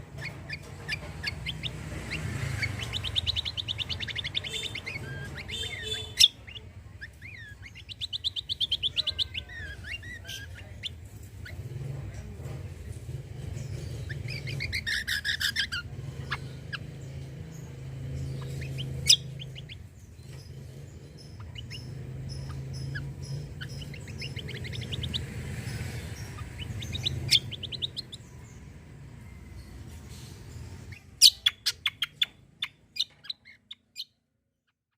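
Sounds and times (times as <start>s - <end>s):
songbirds singing: 0.0s - 34.2s.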